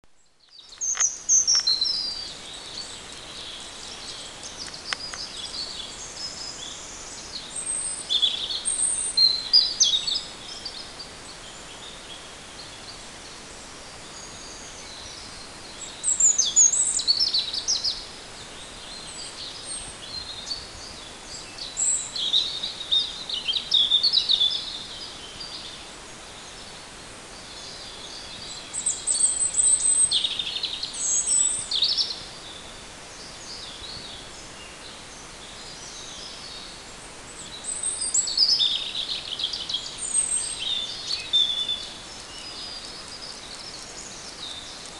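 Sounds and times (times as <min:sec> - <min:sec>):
steady background hiss: 0:00.1 - 0:44.9
songbirds chirping and singing: 0:00.2 - 0:44.9.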